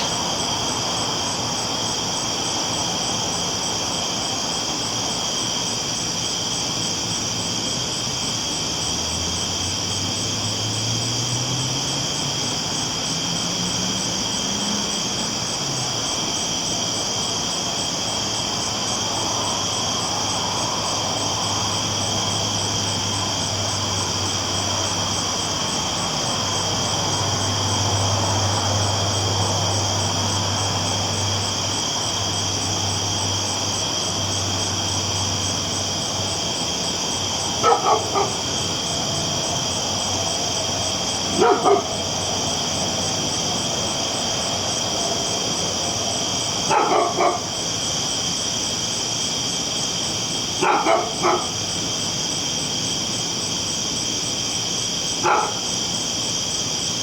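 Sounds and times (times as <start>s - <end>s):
night insects chirring: 0.0s - 57.0s.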